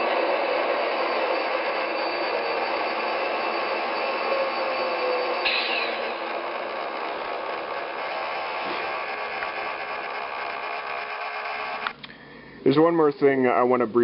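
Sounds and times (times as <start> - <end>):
simulated diesel engine running: 0.0 - 12.0.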